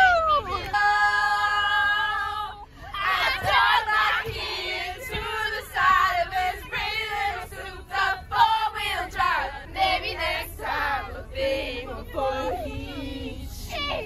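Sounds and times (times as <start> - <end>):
bus engine rumble: 0.0 - 14.0
group singing in unison: 0.0 - 14.0.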